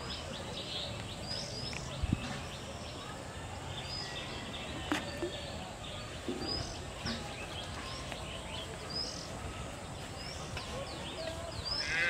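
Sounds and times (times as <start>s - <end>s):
outdoor background hiss: 0.0s - 12.0s
small birds chirping: 0.0s - 12.0s.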